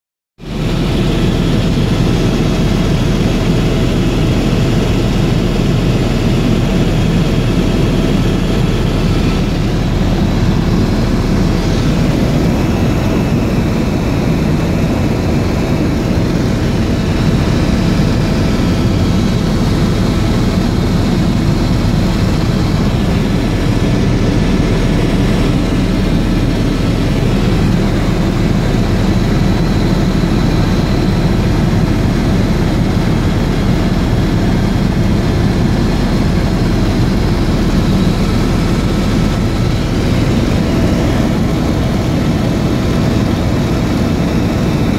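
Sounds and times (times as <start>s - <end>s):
helicopter engine and rotor: 0.4s - 44.9s.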